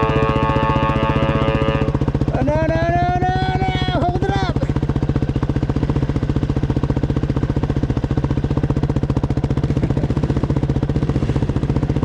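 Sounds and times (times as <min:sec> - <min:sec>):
motorcycle engine chugging: 0:00.0 - 0:12.0.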